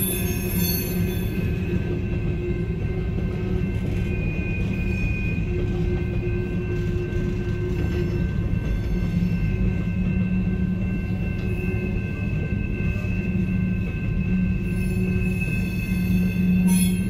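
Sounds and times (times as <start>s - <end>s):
high-pitched ringing tone: 0.0s - 17.0s
train wheels rumbling on rails: 0.0s - 17.0s.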